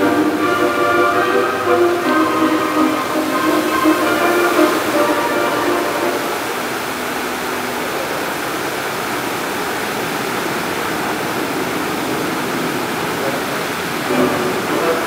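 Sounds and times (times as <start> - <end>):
fountain show music: 0.0 - 15.0
fountain water jets splashing: 0.0 - 15.0.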